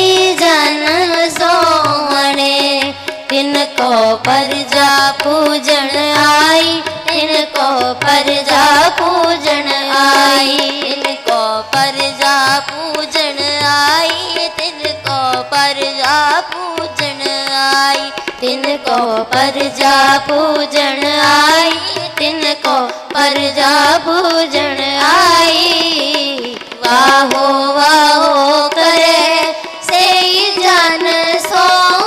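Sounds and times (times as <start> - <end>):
harmonium drone: 0.0 - 32.0
tabla rhythm: 0.0 - 32.0
woman singing devotional melody: 0.0 - 32.0.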